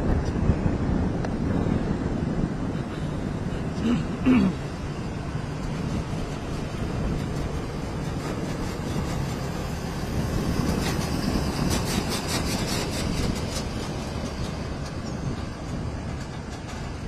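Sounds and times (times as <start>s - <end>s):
distant aircraft engines rumbling: 0.0s - 17.0s.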